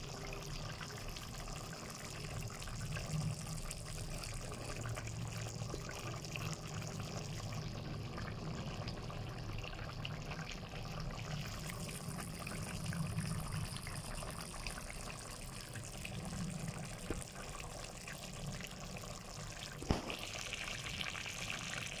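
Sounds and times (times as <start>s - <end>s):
stew bubbling in a pan: 0.0s - 22.0s.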